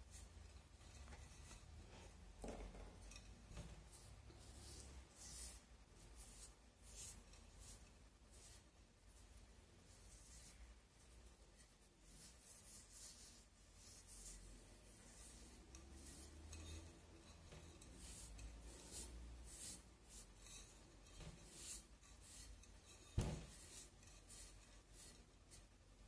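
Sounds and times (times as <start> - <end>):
rubbing against ceramic vase: 3.0 - 26.0.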